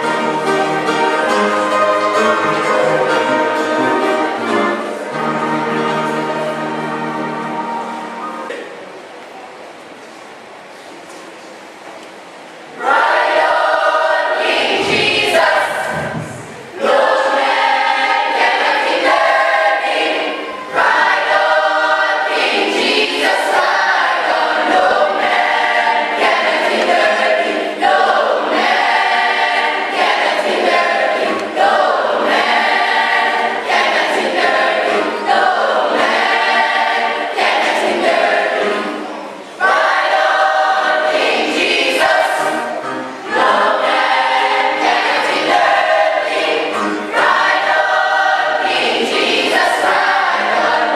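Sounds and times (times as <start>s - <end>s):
choir singing: 0.0s - 8.8s, 12.7s - 50.9s.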